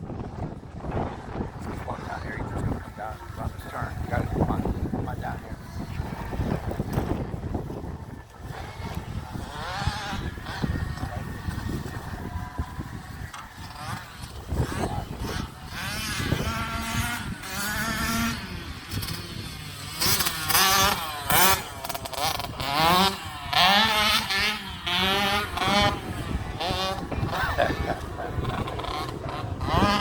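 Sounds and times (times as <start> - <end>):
dirt bike engine revving: 0.3 - 30.0.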